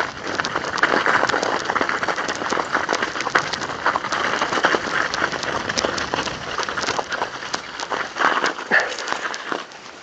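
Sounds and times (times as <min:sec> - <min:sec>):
bike tyres crunching on icy snow: 0:00.0 - 0:10.0.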